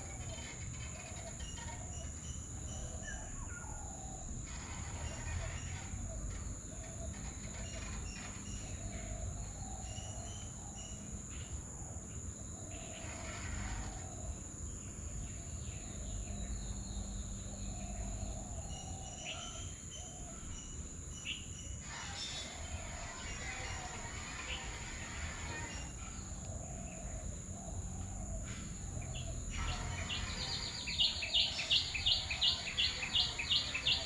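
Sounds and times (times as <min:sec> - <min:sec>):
bird chirps: 0:00.0 - 0:34.0
crickets droning: 0:00.0 - 0:34.0.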